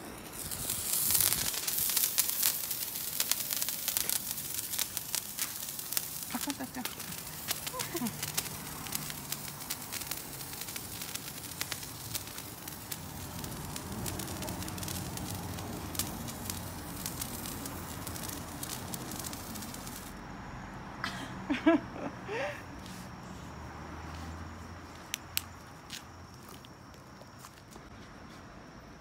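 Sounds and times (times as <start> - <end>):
firework hissing and crackling: 0.0 - 20.2, 21.7 - 27.8.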